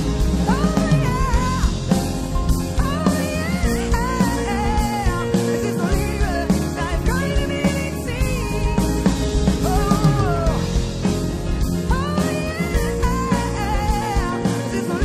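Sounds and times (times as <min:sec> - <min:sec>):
acoustic guitar: 0:00.0 - 0:15.0
drum kit with cymbals: 0:00.0 - 0:15.0
electric bass: 0:00.0 - 0:15.0
woman singing: 0:00.2 - 0:10.8, 0:11.6 - 0:15.0.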